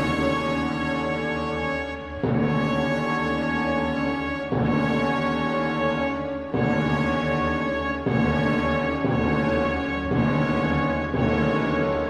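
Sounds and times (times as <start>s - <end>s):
orchestral music: 0.0s - 12.0s.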